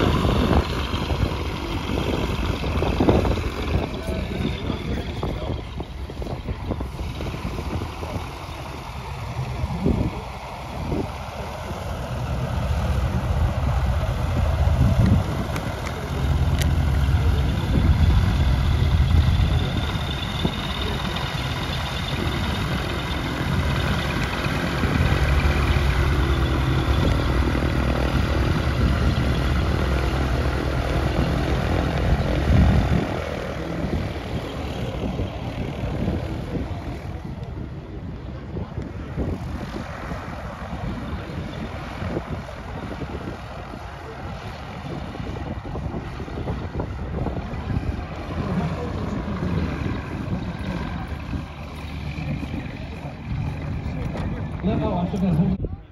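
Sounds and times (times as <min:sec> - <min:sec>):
aircraft propeller engine: 0:00.0 - 0:55.9.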